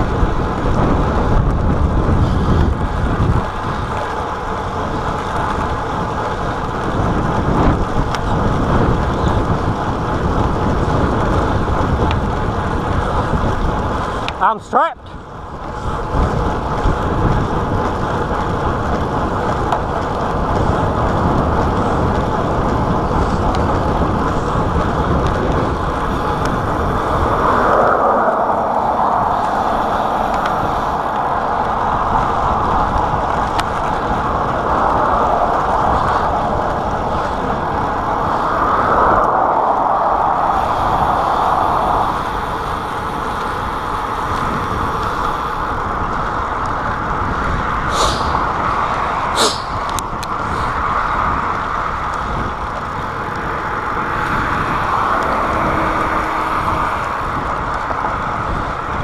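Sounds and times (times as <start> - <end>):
bicycle tyre noise: 0.0 - 59.0
road traffic: 0.0 - 59.0
wind noise: 0.0 - 59.0.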